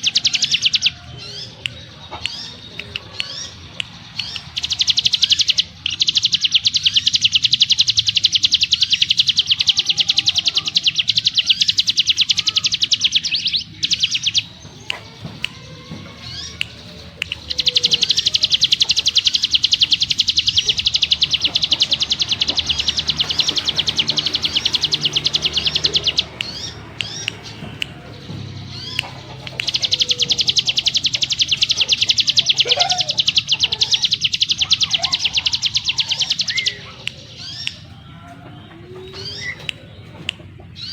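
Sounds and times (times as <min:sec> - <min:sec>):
bird singing high trills: 0:00.0 - 0:38.2, 0:39.0 - 0:40.0.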